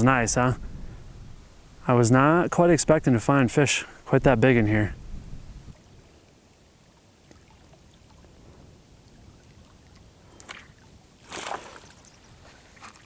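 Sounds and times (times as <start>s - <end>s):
stream flowing: 0.0s - 13.0s.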